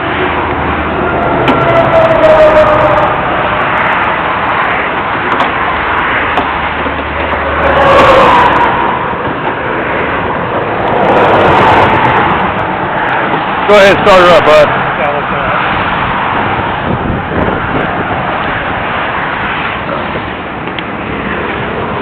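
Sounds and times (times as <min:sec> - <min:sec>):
highway traffic rushing: 0:00.0 - 0:22.0
vehicles passing by: 0:00.0 - 0:22.0.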